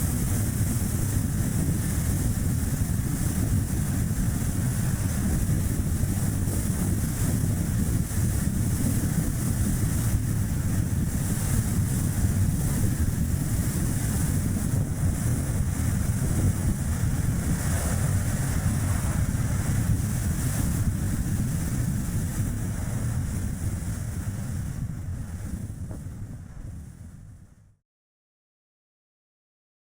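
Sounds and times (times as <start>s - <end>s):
wind rushing over microphone: 0.0s - 27.8s.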